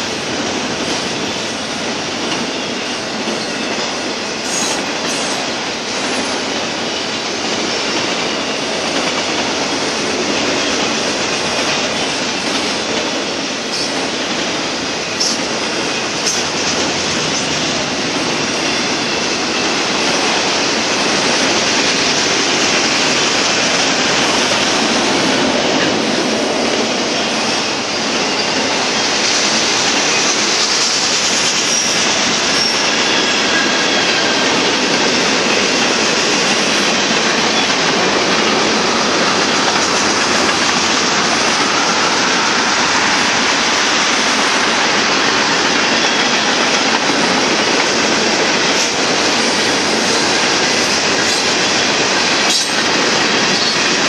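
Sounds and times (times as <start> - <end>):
steel wheels rolling on rail: 0.0 - 54.0.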